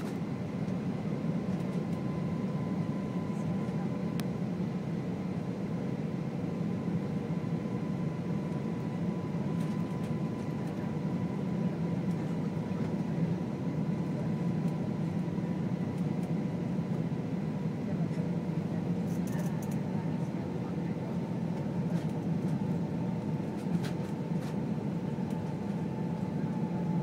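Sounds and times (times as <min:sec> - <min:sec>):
jet engine and airflow rumble: 0:00.0 - 0:27.0.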